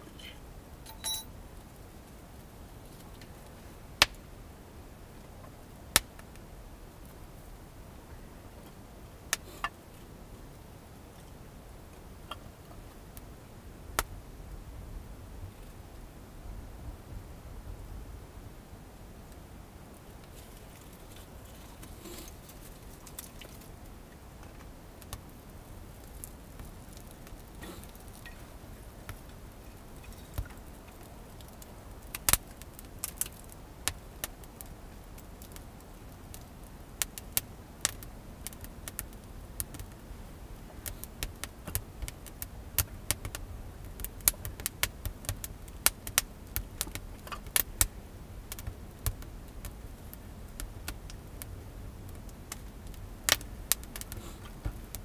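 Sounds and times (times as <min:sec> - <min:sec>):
wood fire crackling and popping: 0:01.6 - 0:04.3, 0:05.2 - 0:07.3, 0:08.7 - 0:13.3, 0:13.9 - 0:14.1, 0:19.2 - 0:55.0.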